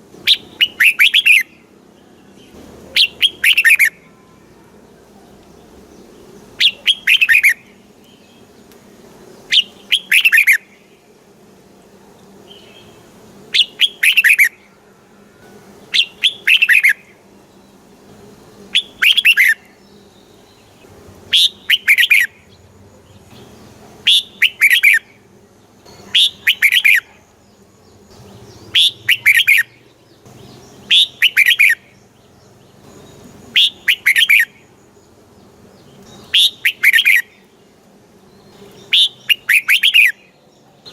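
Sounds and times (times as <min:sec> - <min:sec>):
bird singing bright phrases: 0:00.2 - 0:11.2, 0:12.2 - 0:40.9.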